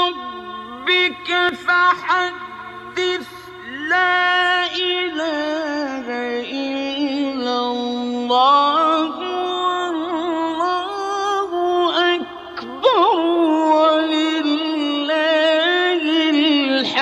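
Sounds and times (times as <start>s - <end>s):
faint steady hum: 0.0s - 16.6s
man reciting melodically: 0.0s - 17.0s.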